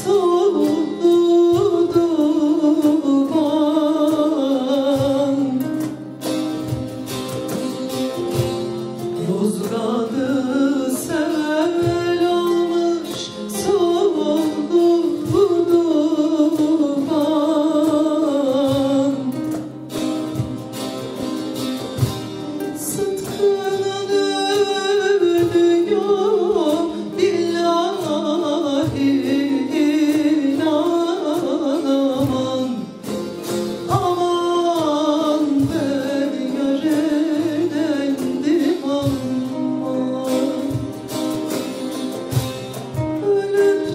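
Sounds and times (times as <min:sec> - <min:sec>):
person singing folk song: 0:00.0 - 0:43.9
plucked saz: 0:00.0 - 0:43.9.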